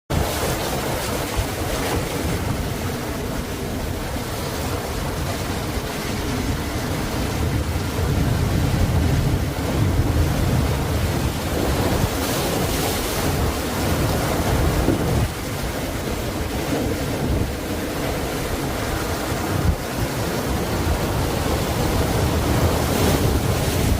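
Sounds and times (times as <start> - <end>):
ocean waves breaking: 0.1 - 23.9.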